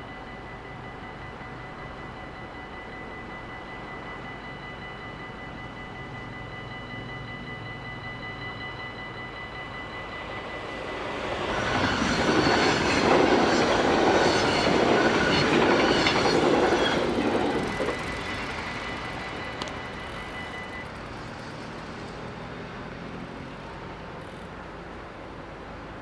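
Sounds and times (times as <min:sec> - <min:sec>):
level crossing warning bells: 0:00.0 - 0:26.0
train wheels rumbling on rails: 0:00.0 - 0:26.0.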